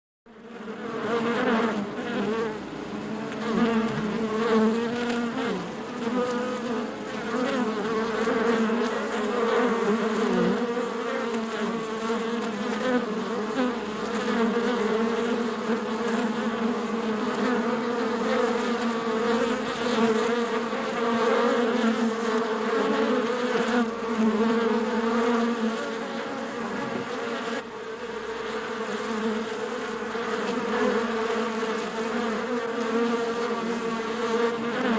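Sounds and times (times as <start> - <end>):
bees buzzing: 0.3 - 34.9.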